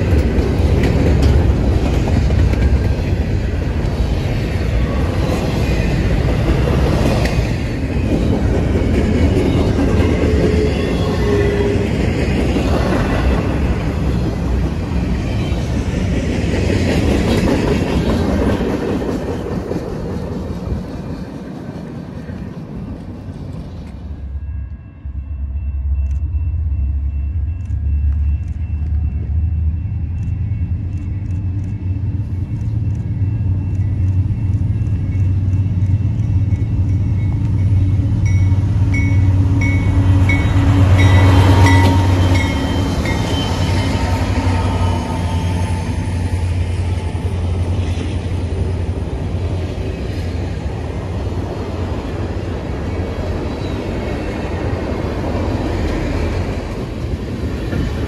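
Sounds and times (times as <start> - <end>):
diesel locomotive engine hum: 0.0 - 58.0
train wheels running on rails: 0.0 - 58.0.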